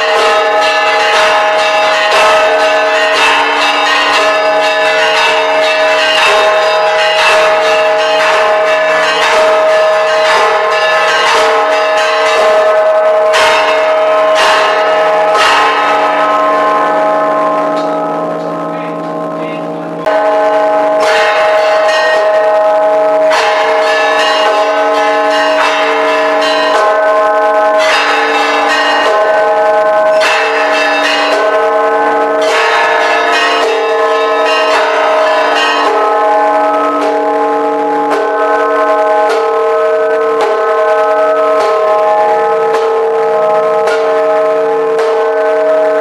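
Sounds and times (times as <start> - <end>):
church bells ringing: 0.0 - 46.0.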